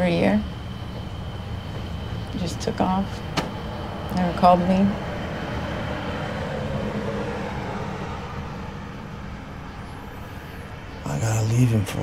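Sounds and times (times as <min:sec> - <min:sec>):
faint hum: 0:00.0 - 0:12.0
low background rumble: 0:00.0 - 0:12.0.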